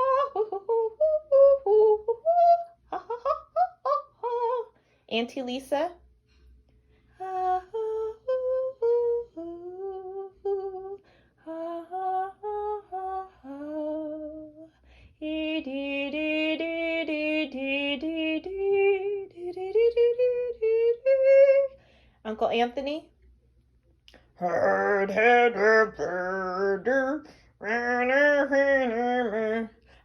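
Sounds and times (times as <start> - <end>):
person singing wordless melody: 0.0 - 4.7, 7.2 - 21.8, 24.2 - 30.0.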